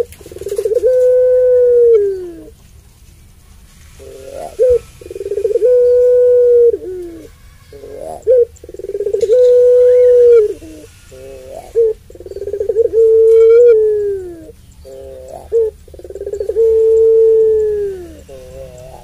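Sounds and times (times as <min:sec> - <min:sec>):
dove cooing: 0:00.0 - 0:02.6, 0:03.4 - 0:19.0.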